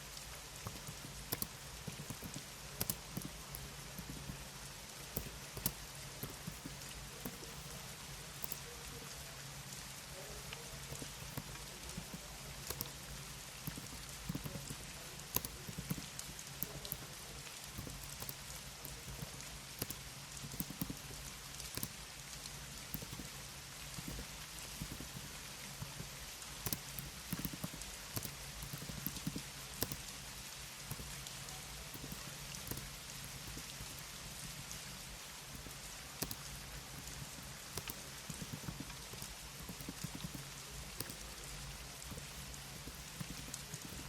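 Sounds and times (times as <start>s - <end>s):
keyboard key clicks: 0.0s - 9.3s, 10.1s - 44.0s
low hum and hiss: 0.0s - 44.0s.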